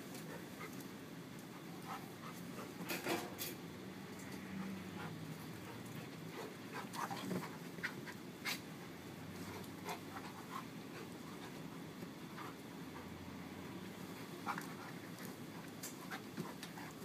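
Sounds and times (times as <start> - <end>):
dogs panting: 0.1 - 3.0, 4.4 - 8.8, 9.4 - 17.0
dogs scuffling: 1.5 - 17.0.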